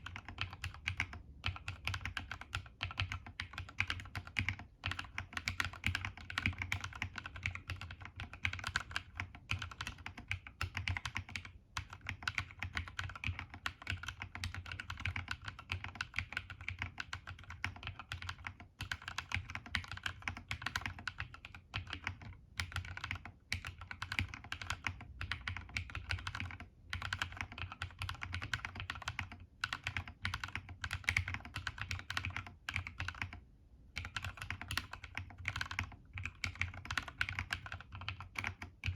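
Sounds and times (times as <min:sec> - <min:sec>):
fast typing on mechanical keyboard: 0:00.0 - 0:33.4, 0:34.0 - 0:38.9.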